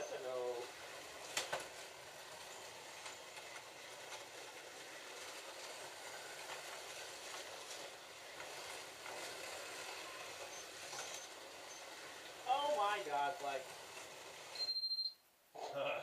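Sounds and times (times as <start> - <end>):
slot cars whirring: 0.0 - 15.1.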